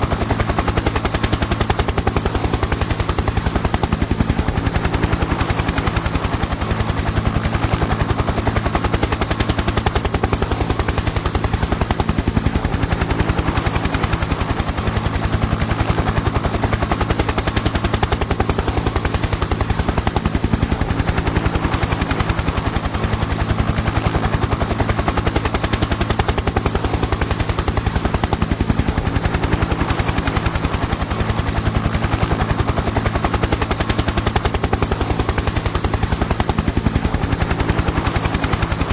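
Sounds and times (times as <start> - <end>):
helicopter engine drone: 0.0 - 38.9
helicopter rotor beating: 0.0 - 38.9.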